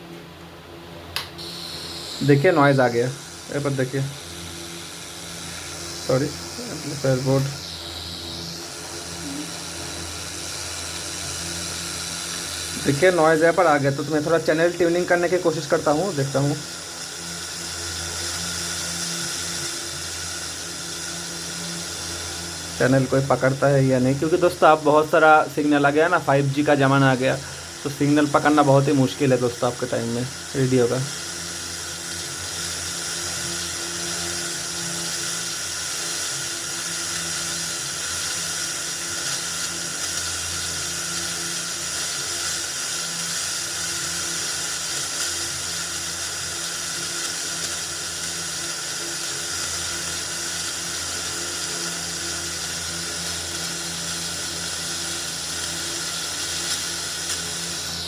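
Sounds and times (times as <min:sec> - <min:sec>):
radio static hiss: 0:01.2 - 0:58.0.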